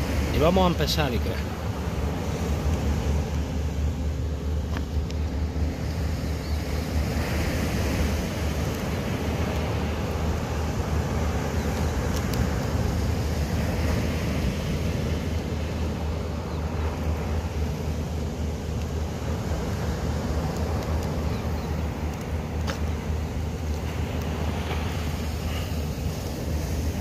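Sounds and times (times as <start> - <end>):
surf breaking on beach: 0.0 - 27.0.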